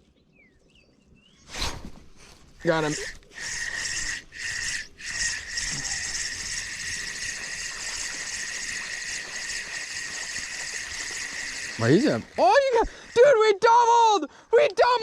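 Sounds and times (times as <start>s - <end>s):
shrill insect chorus: 1.5s - 14.4s
fine hiss: 1.5s - 14.6s.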